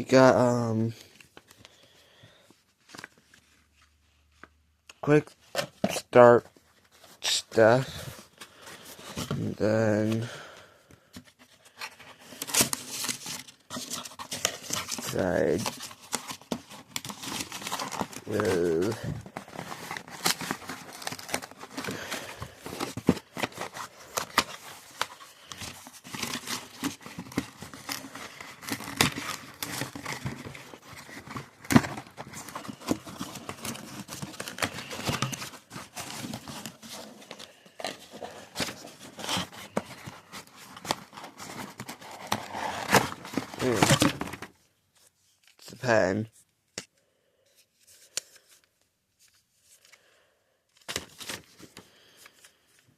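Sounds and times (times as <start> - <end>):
plastic and paper rustling: 2.5 - 46.5, 50.7 - 52.9.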